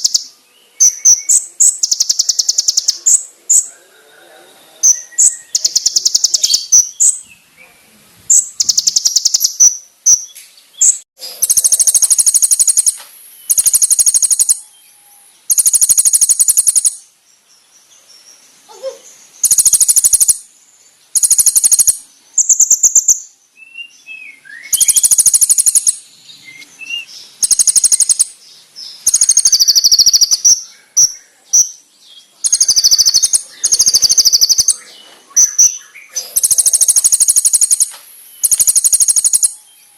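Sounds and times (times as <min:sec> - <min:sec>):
bird chirps and whistles: 0:00.0 - 0:03.2, 0:04.8 - 0:07.4, 0:08.3 - 0:17.0, 0:19.4 - 0:20.4, 0:21.2 - 0:28.3, 0:29.0 - 0:31.8, 0:32.4 - 0:39.9
sunbird singing rapid trills: 0:00.0 - 0:03.8, 0:04.6 - 0:07.6, 0:08.3 - 0:39.9.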